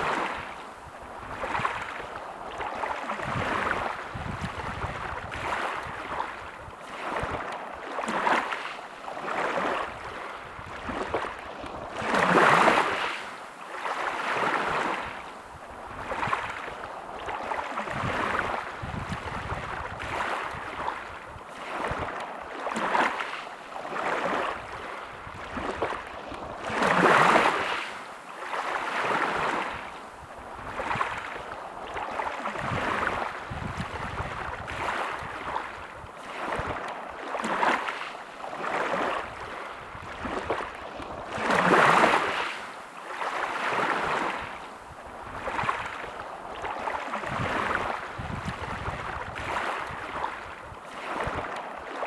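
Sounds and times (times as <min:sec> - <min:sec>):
bigger waves breaking: 0:00.0 - 0:52.0
small waves washing on beach: 0:00.0 - 0:52.0.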